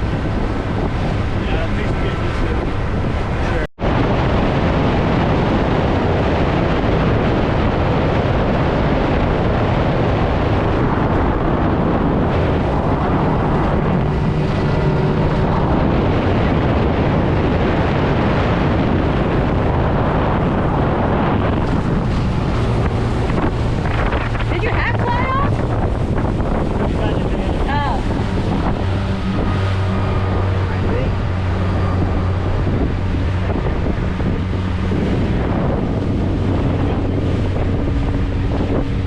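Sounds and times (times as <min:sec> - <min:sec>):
boat motor running: 0:00.0 - 0:39.0
wind buffeting microphone: 0:00.0 - 0:39.0.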